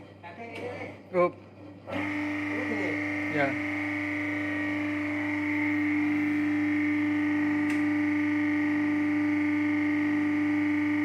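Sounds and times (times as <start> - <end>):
hydraulic pump hum and whine: 1.6 - 11.0.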